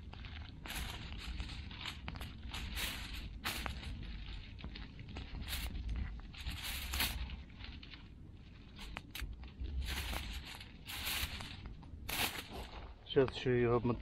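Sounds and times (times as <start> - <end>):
aluminium foil crinkling: 0.0 - 14.0.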